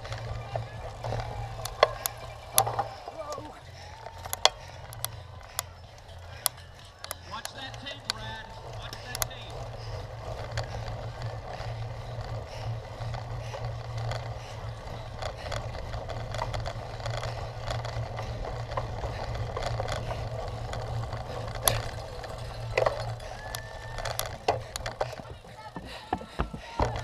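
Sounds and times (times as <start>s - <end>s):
bicycle clicks and rattles: 0.0s - 27.0s
bicycle riding over rough ground: 0.0s - 27.0s.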